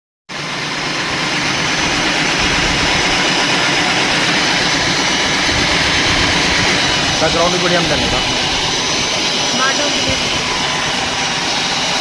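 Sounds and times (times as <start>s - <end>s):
concrete-cutting machine running: 0.3s - 12.0s.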